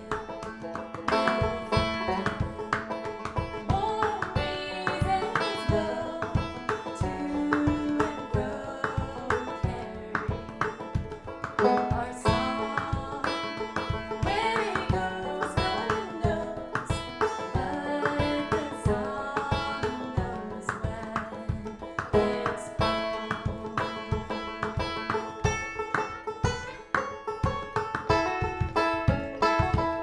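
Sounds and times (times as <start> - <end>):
woman singing: 0.0 - 25.2
banjo picking: 0.0 - 30.0
hand drum beat: 0.0 - 30.0.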